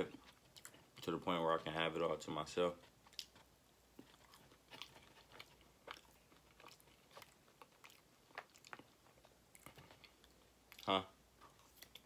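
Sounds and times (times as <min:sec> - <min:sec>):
person chewing with mouth clicks: 0:00.0 - 0:01.1, 0:02.8 - 0:12.0.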